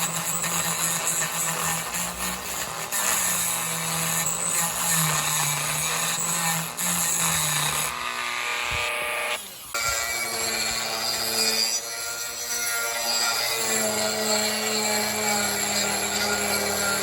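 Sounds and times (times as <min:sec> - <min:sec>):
power tool running on wood: 0:00.0 - 0:17.0.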